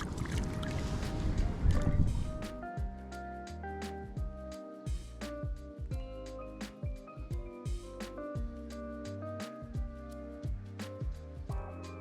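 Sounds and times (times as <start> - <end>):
background music with steady beat: 0.6 - 12.0.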